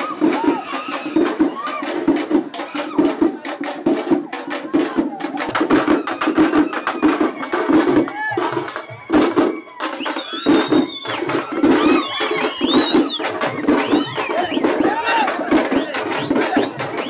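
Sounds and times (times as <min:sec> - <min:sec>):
crowd voices: 0:00.0 - 0:17.0
processional drums beating: 0:00.0 - 0:17.0.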